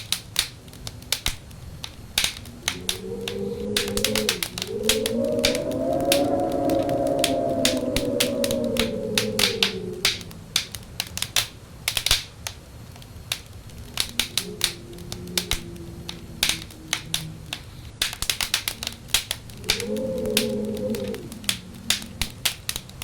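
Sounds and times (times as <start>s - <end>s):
wind howling: 0.0s - 12.0s, 12.7s - 23.0s
wood fire crackling and popping: 0.0s - 23.0s.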